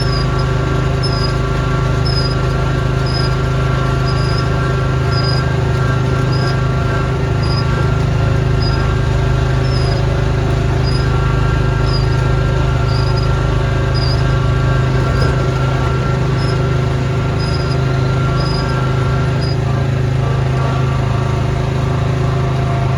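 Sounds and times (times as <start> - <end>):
snowblower engine running: 0.0 - 22.9.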